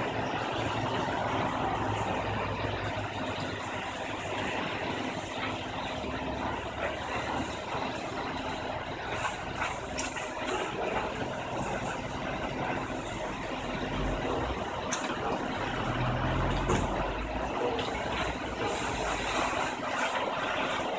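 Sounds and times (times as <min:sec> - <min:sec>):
truck engine running: 0:00.0 - 0:20.9.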